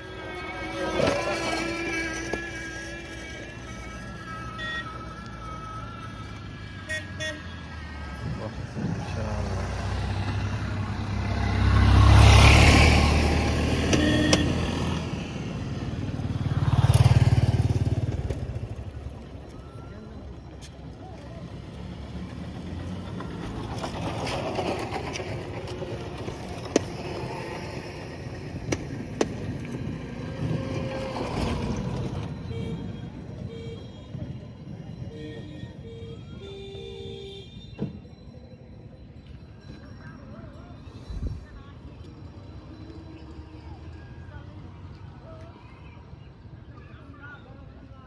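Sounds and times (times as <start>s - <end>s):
vehicles passing by: 0.0s - 48.0s.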